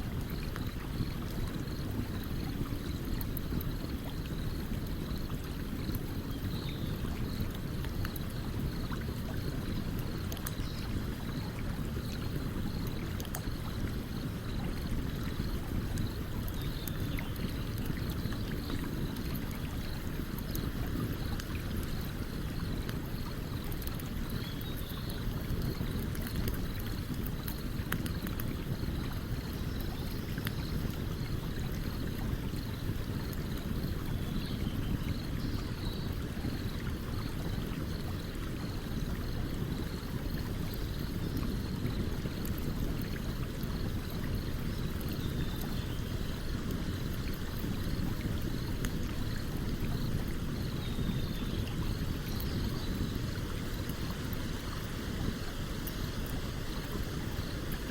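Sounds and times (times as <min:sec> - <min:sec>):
stream running: 0:00.0 - 0:57.9.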